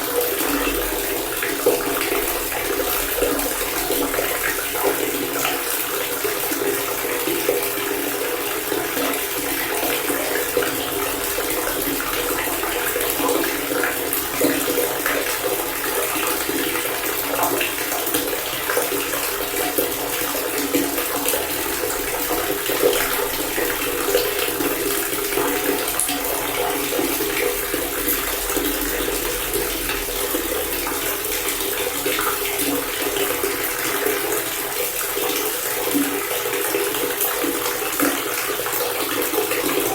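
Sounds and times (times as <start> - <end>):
water pouring from faucet: 0.0 - 39.9.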